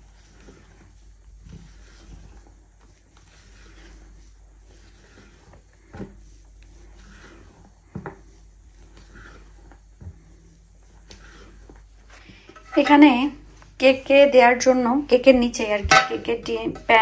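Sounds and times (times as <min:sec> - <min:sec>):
spatula scraping glass bowl: 0:00.0 - 0:14.8, 0:15.6 - 0:17.0.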